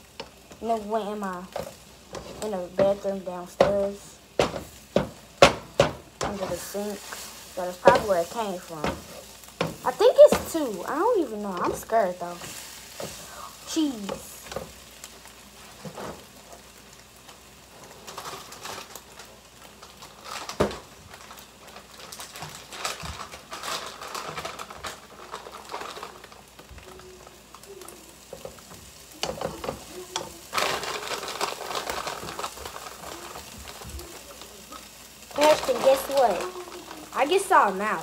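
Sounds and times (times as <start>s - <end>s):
kitchen clatter: 0.0s - 14.8s, 17.9s - 38.0s
eggs sizzling in a pan: 0.0s - 38.0s.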